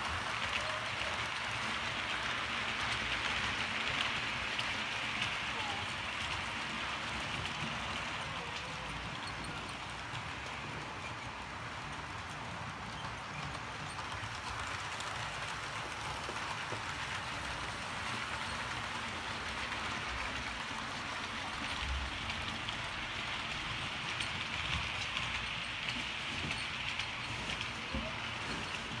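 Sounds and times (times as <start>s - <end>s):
model train wheels rolling: 0.0s - 29.0s.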